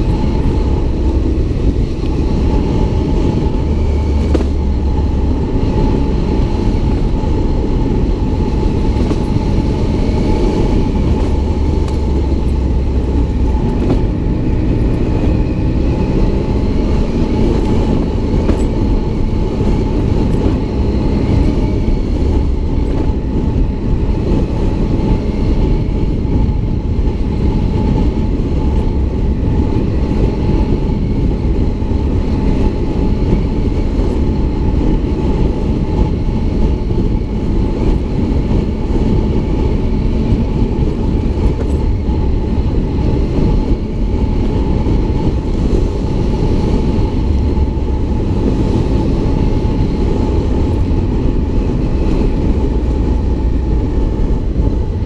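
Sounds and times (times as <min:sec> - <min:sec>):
motorcycle engine running: 0:00.0 - 0:55.0
wind rumble on microphone: 0:00.0 - 0:55.0.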